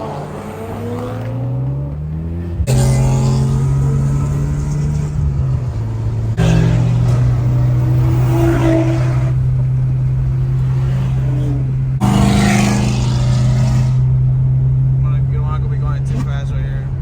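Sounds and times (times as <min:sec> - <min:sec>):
car engines revving: 0:00.0 - 0:17.0
low engine drone: 0:01.5 - 0:16.9.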